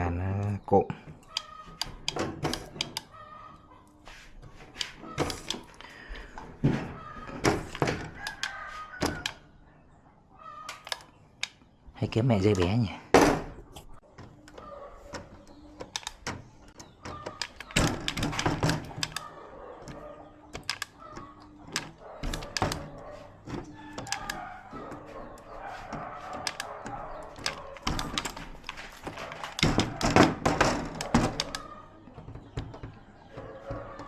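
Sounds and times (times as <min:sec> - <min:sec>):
tools and parts clicking and knocking: 0:01.1 - 0:03.2, 0:04.4 - 0:09.4, 0:10.6 - 0:11.7, 0:12.4 - 0:34.0.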